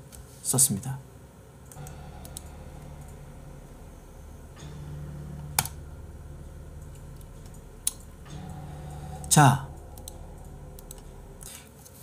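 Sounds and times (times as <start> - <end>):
steady low hum: 1.8 - 12.0.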